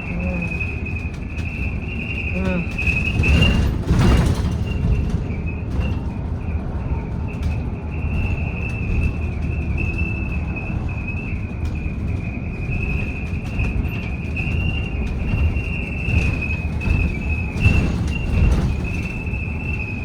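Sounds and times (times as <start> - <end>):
bus road rumble: 0.0 - 20.0.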